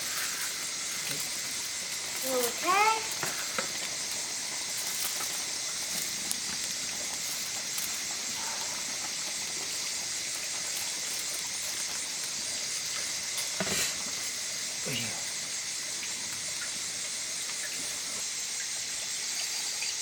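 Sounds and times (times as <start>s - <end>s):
pork sizzling: 0.0s - 20.0s.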